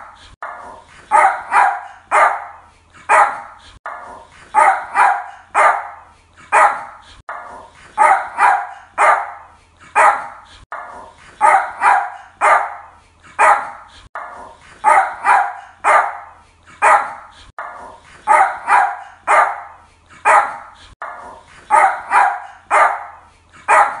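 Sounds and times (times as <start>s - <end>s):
small dog barking: 1.1s - 10.4s, 11.4s - 24.0s.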